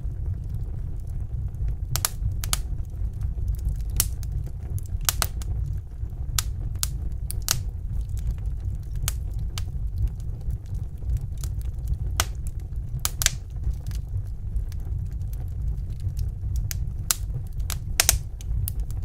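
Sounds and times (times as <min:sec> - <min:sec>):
low rumble: 0:00.0 - 0:19.0
wood fire crackling: 0:00.0 - 0:19.0.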